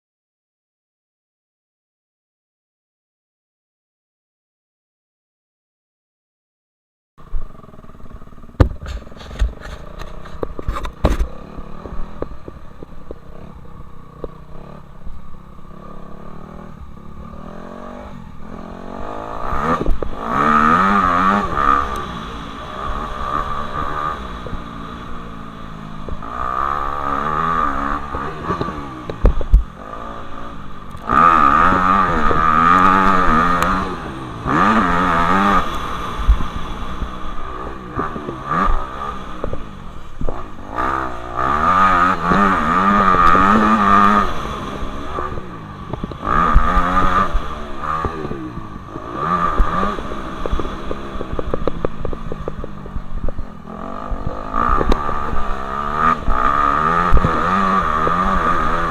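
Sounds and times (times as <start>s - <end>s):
motorbike engines revving: 7.2s - 58.9s.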